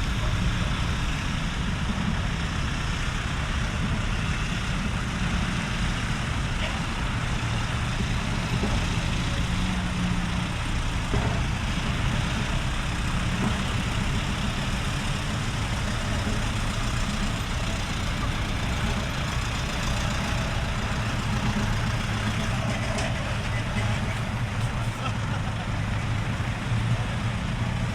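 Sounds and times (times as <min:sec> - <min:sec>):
diesel truck engines idling: 0:00.0 - 0:27.9.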